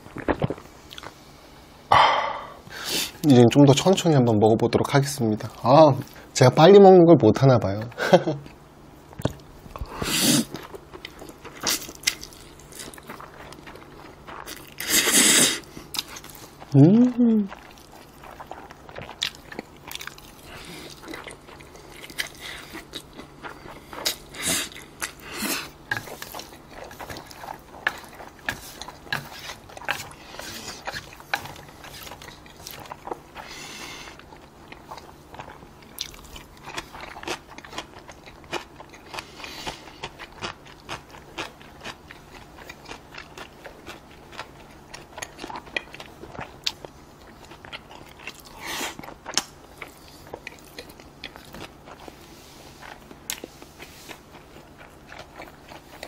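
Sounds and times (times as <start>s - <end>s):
wet chewing: 9.2s - 56.0s.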